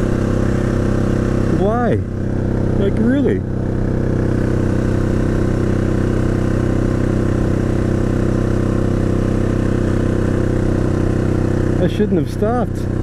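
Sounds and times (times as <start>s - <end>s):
engine running rough: 0.0s - 13.0s.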